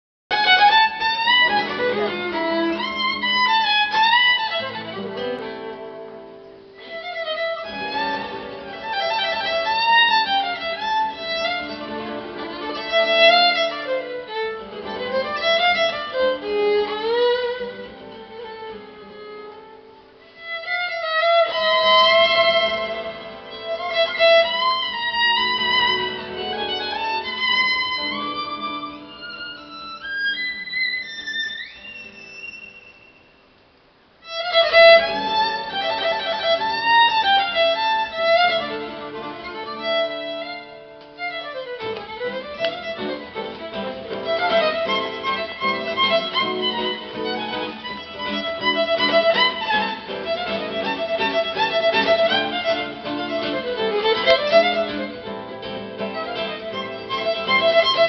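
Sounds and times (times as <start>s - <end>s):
violin melody: 0.3s - 33.2s, 34.2s - 58.0s
acoustic guitar accompaniment: 0.3s - 58.0s.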